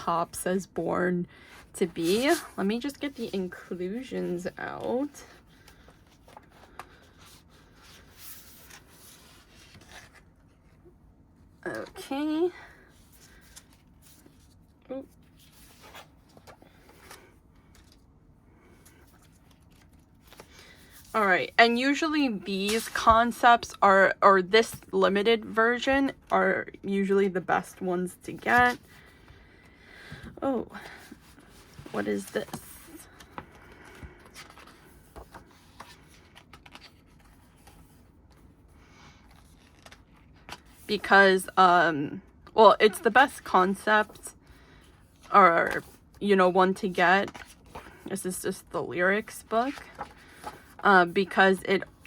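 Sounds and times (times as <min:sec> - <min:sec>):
paper and card rustling: 0:01.4 - 0:10.8, 0:11.7 - 0:23.8, 0:27.0 - 0:52.0.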